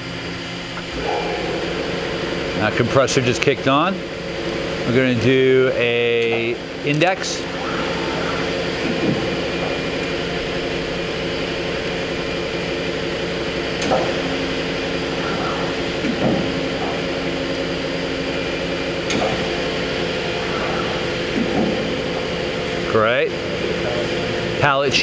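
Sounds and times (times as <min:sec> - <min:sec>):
machine humming: 0:00.0 - 0:25.0
machine clunks: 0:00.8 - 0:11.4, 0:13.8 - 0:23.8.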